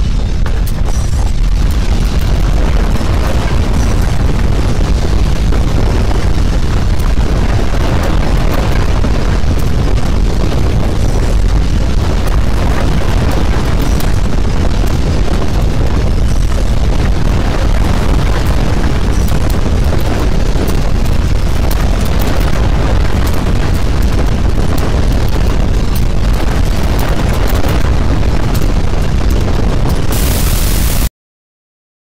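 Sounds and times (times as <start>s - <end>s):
crackling and rattling: 0.0s - 30.9s
deep earthquake rumble: 0.0s - 31.1s.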